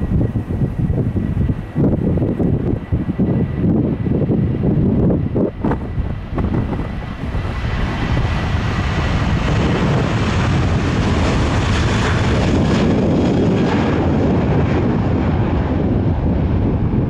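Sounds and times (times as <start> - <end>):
jet engines running: 0.0 - 17.0
wind buffeting microphone: 0.0 - 17.0.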